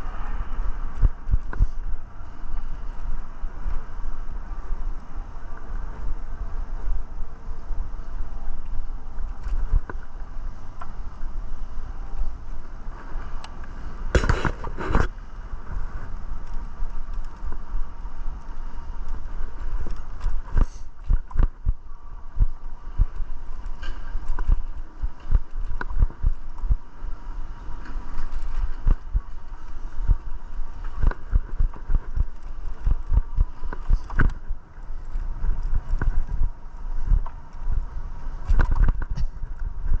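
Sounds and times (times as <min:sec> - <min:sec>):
bike rattling over pavement: 0:00.0 - 0:40.0
wind rumble on microphone: 0:00.0 - 0:40.0.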